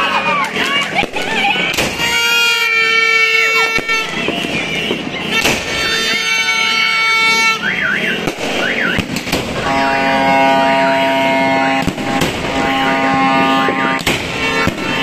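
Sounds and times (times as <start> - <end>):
fireworks bangs: 0.0 - 15.0
steady horn tones: 2.0 - 15.0.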